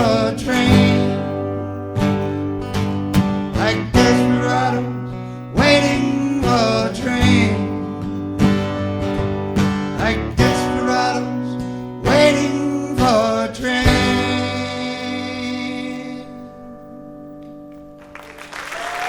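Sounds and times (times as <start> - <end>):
acoustic guitars strumming: 0.0 - 18.2.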